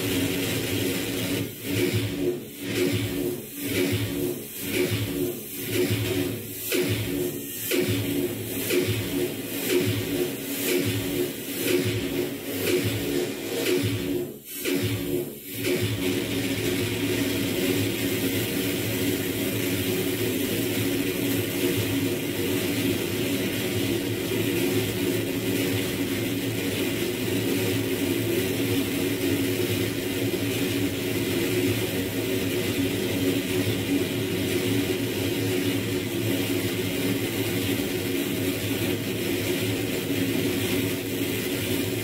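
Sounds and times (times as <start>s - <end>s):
dense electronic drone: 0.0s - 42.0s.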